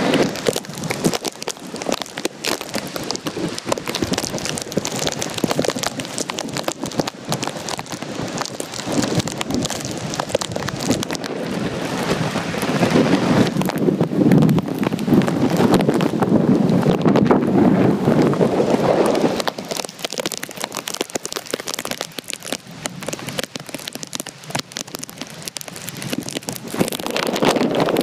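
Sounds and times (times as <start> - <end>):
gusting wind: 0.0 - 28.0
hard rain pattering: 0.0 - 28.0.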